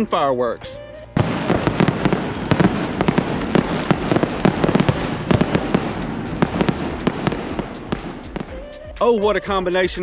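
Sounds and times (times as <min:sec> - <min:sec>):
fireworks bangs and crackles: 0:01.2 - 0:09.4.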